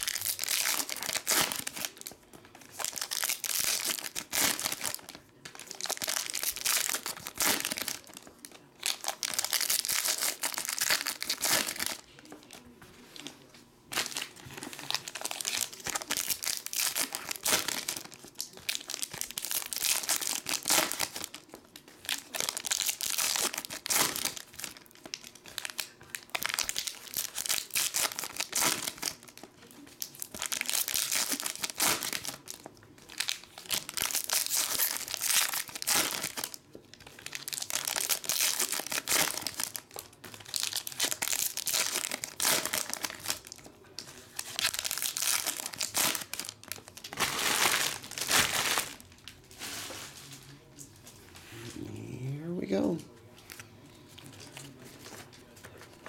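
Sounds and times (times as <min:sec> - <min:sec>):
foil wrappers crinkling and tearing: 0:00.0 - 0:50.8.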